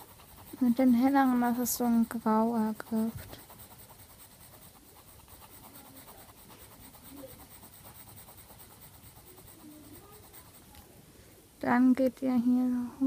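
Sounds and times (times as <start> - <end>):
faint rapid scratching on paper: 0.0 - 11.0.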